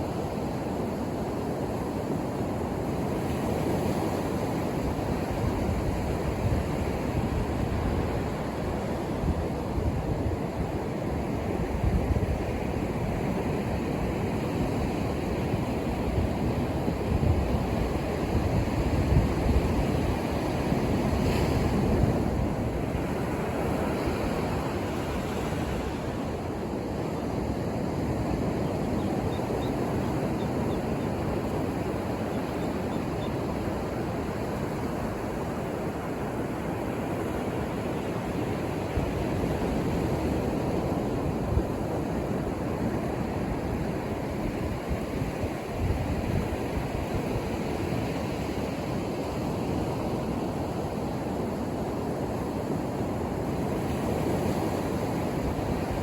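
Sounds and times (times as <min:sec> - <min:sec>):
ocean surf breaking on shore: 0:00.0 - 0:56.0.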